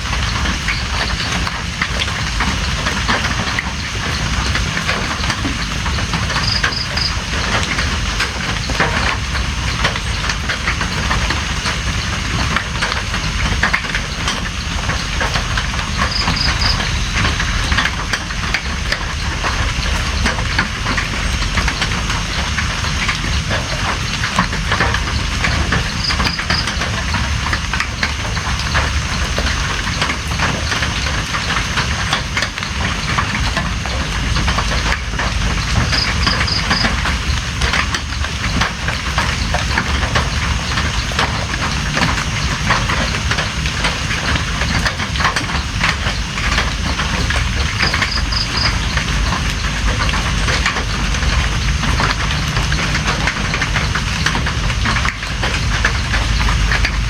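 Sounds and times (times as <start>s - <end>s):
drops ticking: 0.0s - 57.0s
heavy rain hiss: 0.0s - 57.0s.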